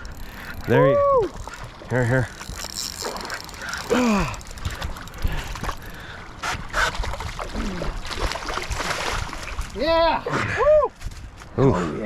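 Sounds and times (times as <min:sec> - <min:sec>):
water splashing: 0:00.0 - 0:10.2.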